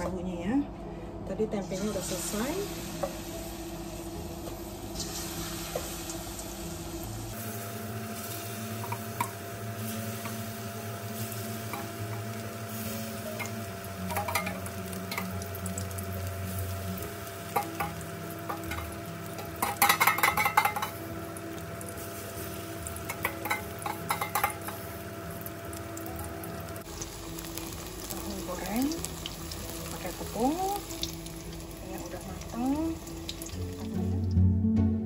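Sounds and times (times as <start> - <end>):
tofu sizzling in hot oil: 2.2 - 34.3.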